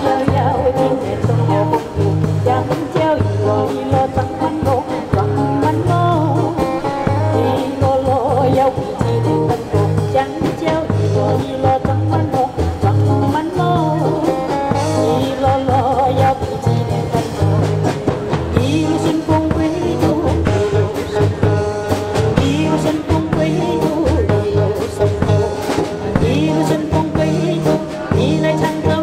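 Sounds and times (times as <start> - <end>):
bass line: 0.0 - 29.0
electric guitar: 0.0 - 29.0
steady drum beat: 0.0 - 29.0
woman singing with vibrato: 0.0 - 29.0.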